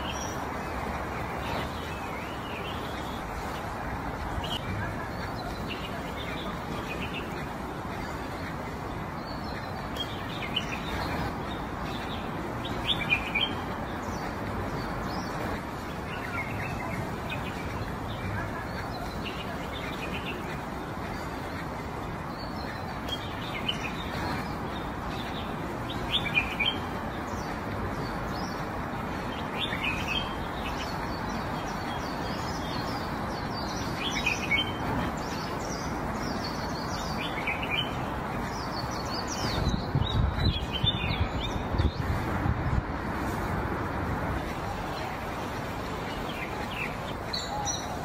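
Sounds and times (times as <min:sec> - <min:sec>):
small birds chirping: 0:00.0 - 0:48.0
steady background hiss: 0:00.0 - 0:48.0.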